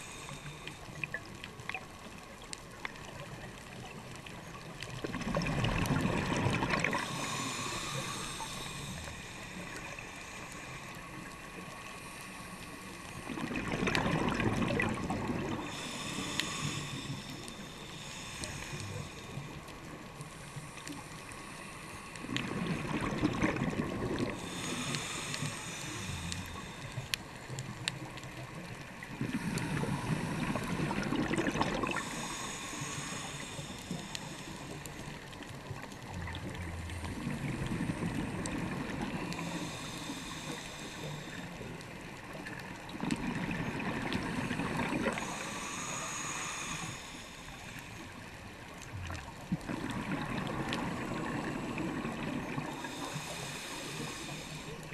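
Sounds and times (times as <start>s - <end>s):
diver breathing through regulator: 0.0s - 1.2s, 6.3s - 28.0s, 29.1s - 48.5s, 49.6s - 54.9s.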